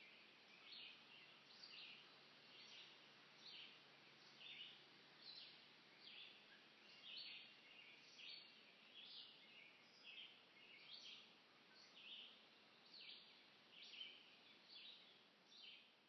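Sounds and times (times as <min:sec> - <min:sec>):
faint bird chirps: 0:00.0 - 0:16.0
low steady hiss: 0:00.0 - 0:16.0.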